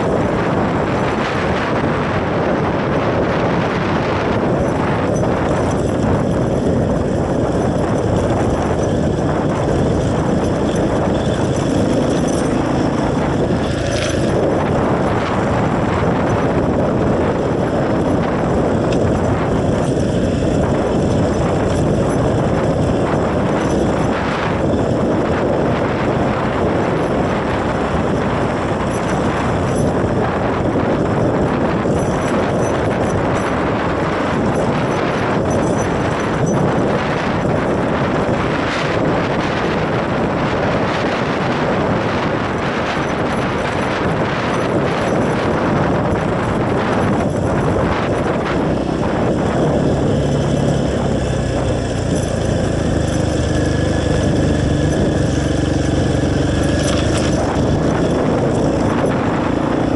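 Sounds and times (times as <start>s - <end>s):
dirt bike engine running: 0.0s - 59.9s
wind noise on microphone: 0.0s - 59.9s.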